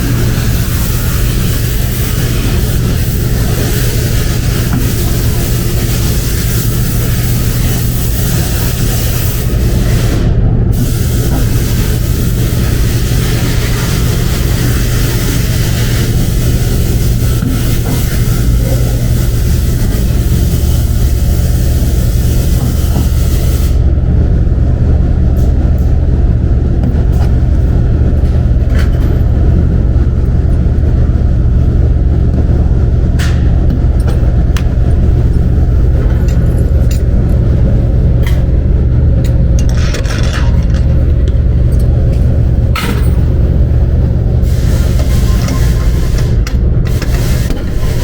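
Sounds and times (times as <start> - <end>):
loud low machine drone: 0.0 - 48.0.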